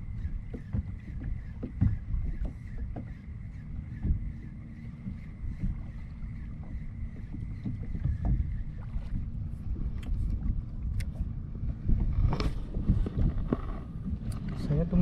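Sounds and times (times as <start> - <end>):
spinning reel whine: 0.0 - 15.0
water slapping kayak hull: 0.0 - 15.0
wind rumbling on microphone: 0.0 - 15.0.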